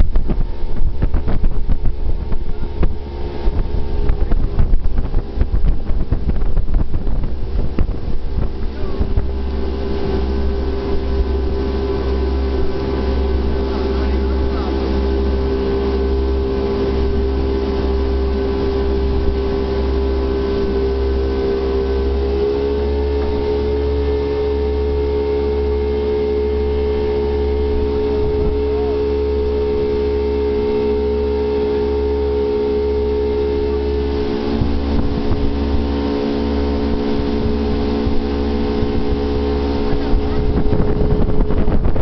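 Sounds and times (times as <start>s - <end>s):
jet boat engine running: 0.0s - 42.0s.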